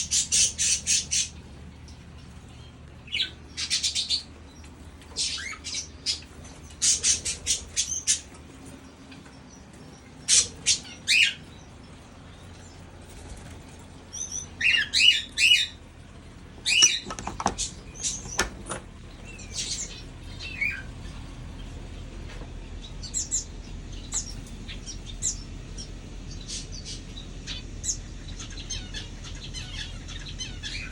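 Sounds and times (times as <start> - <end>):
small birds chirping and calling: 0.0 - 30.9.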